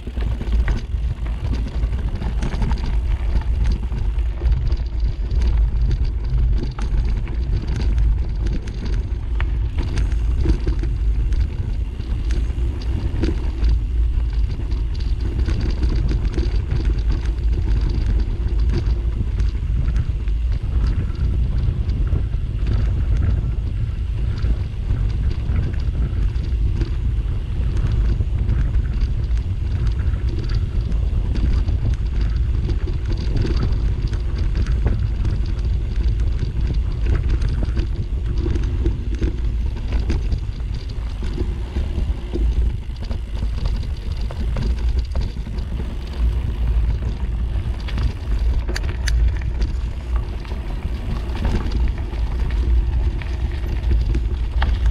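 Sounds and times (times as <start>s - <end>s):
fine crackle on dirt track: 0.0s - 54.9s
wind buffeting microphone: 0.0s - 54.9s.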